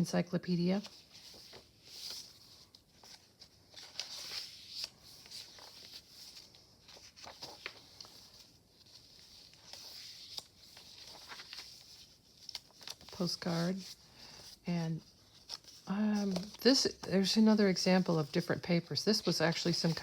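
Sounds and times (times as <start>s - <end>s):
paper pages rustling: 0.7s - 20.0s.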